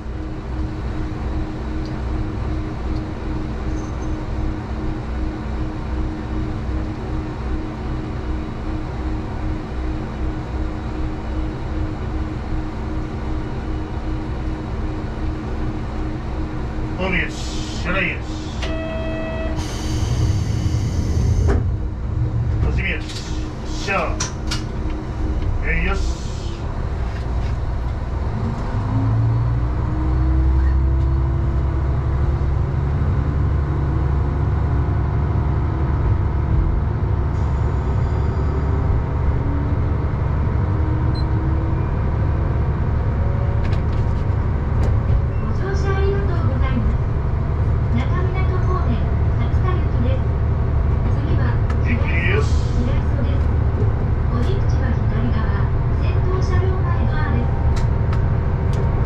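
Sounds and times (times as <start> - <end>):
diesel engine idling: 0.0 - 43.6, 44.2 - 59.0.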